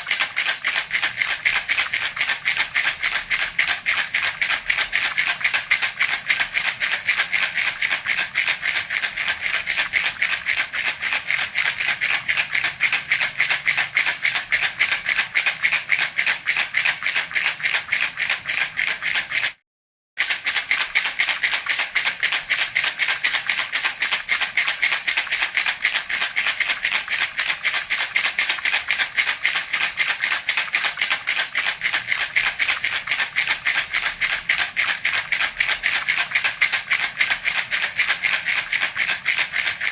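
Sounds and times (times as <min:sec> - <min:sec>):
baby's toy rattle shaken: 0:00.0 - 0:19.6, 0:20.2 - 0:39.9.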